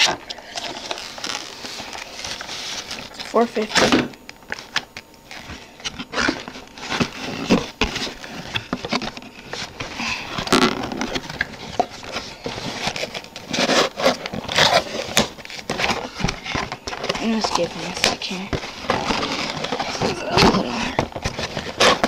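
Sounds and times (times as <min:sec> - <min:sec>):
cardboard and plastic rustling: 0:00.0 - 0:22.0.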